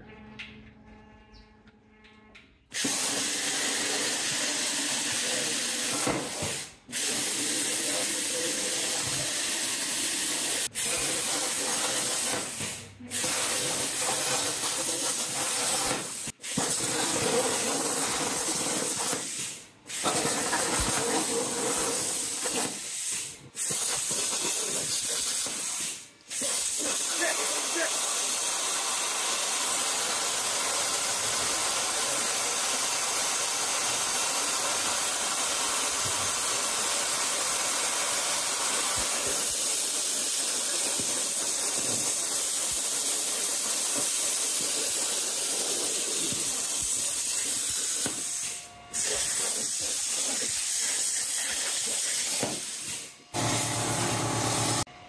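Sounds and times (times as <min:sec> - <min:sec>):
plasma cutter arc hissing: 0:02.7 - 0:54.9.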